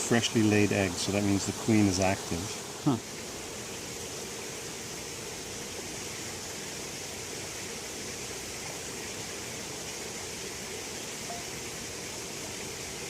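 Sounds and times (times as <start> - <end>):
constant hiss: 0.0 - 13.0
honeybees humming: 0.0 - 13.0.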